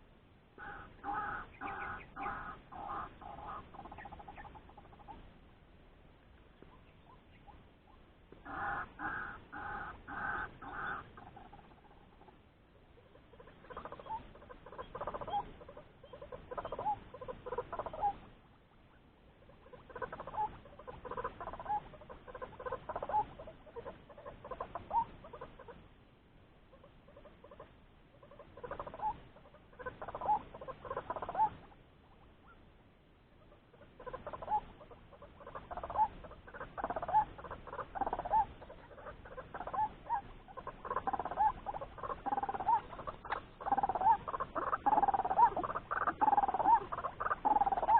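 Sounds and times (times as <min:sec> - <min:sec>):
waterhen croaking calls: 0:00.6 - 0:05.3, 0:06.6 - 0:25.8, 0:26.7 - 0:32.7, 0:33.4 - 0:47.9.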